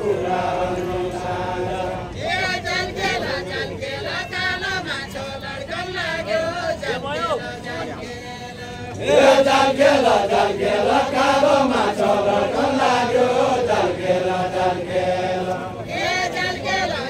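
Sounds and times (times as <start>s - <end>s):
men singing without instruments: 0.0s - 17.0s.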